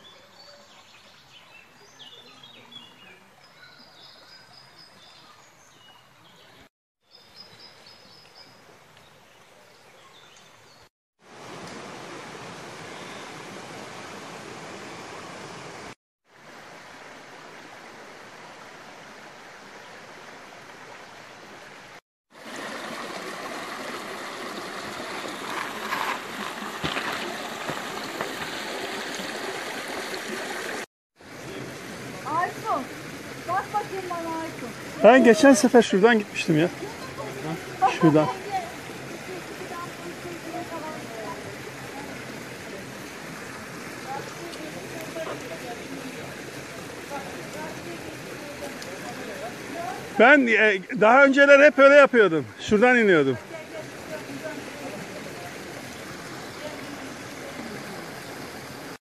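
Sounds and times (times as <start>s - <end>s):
creek water running over stones: 7.5s - 59.0s.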